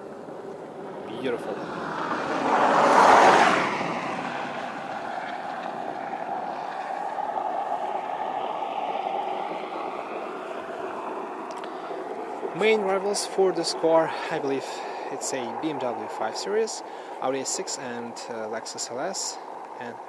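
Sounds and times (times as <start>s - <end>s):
rush of noise: 0.0s - 20.0s.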